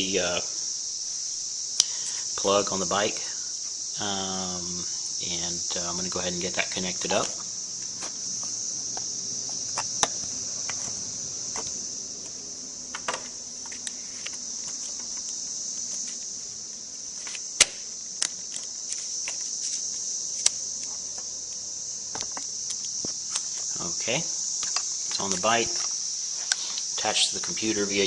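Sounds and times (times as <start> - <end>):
steady high-pitched hiss: 0.0 - 28.0.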